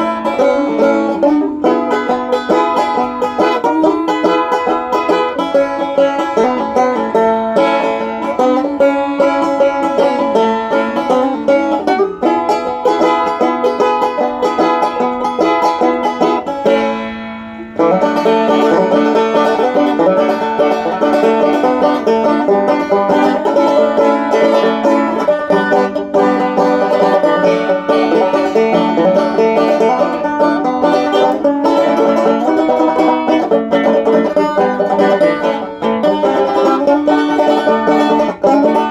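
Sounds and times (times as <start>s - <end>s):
banjo bluegrass playing: 0.0s - 38.9s.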